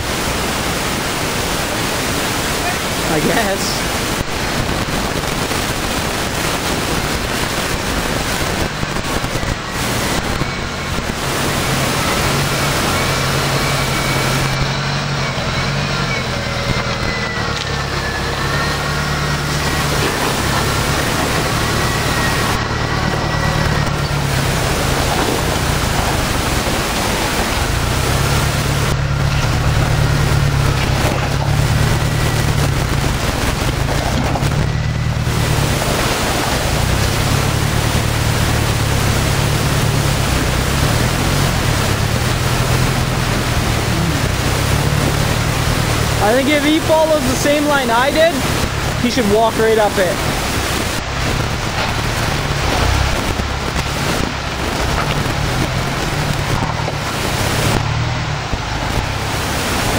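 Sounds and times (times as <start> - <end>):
engine running at low speed: 0.0 - 59.9
river rushing: 0.0 - 59.9.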